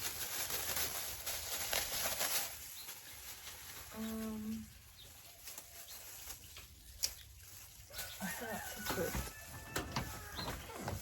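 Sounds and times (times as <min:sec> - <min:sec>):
crackly rustle: 0:00.0 - 0:11.0.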